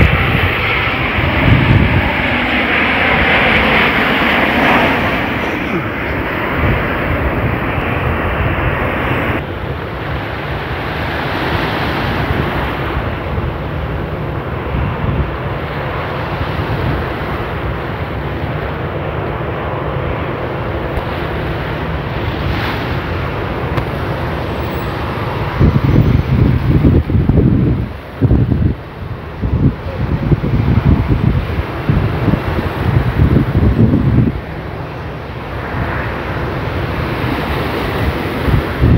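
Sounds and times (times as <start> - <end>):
wind buffeting microphone: 0.0 - 18.8, 20.7 - 38.9
surf on the shore: 0.0 - 38.9.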